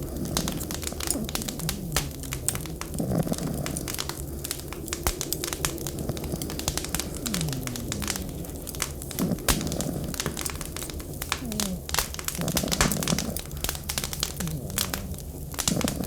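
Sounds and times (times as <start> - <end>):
low steady rumble: 0.0 - 16.0
wood fire crackling and popping: 0.0 - 16.0.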